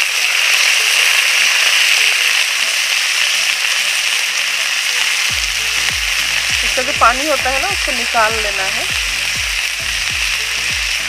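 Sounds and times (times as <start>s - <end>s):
greens sizzling in hot oil: 0.0s - 11.0s.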